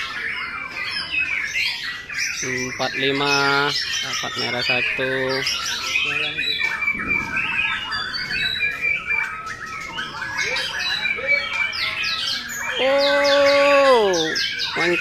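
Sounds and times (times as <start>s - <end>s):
birds chirping and whistling: 0.0s - 15.0s.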